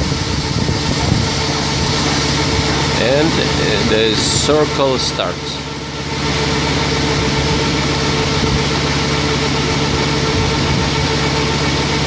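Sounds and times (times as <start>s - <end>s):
pump hum: 0.0s - 12.0s
water and air hissing through hoses: 0.0s - 12.0s.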